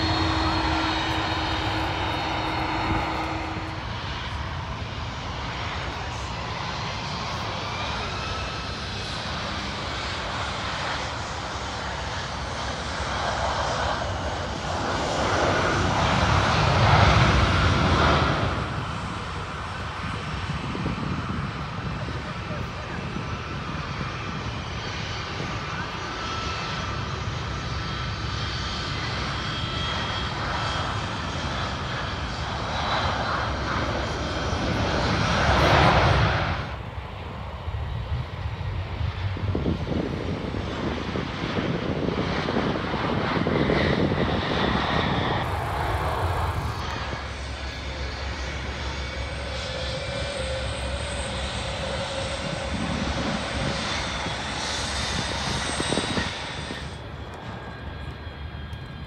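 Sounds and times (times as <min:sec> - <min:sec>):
jet airliner engines: 0:00.0 - 0:59.0.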